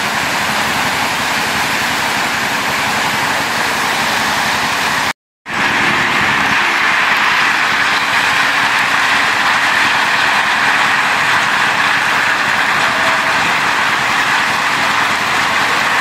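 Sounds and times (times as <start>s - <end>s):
heavy rain and hail: 0.0s - 16.0s.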